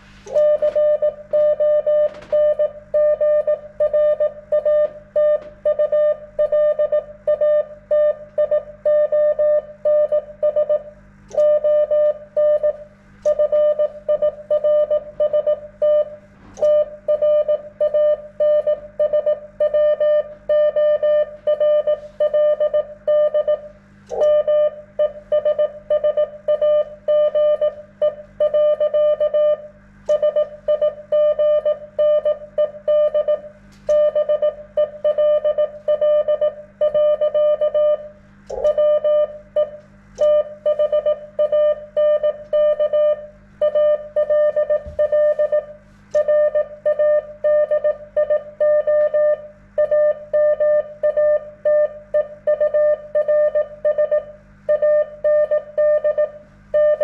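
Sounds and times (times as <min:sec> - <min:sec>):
morse code beeps: 0:00.3 - 0:57.0.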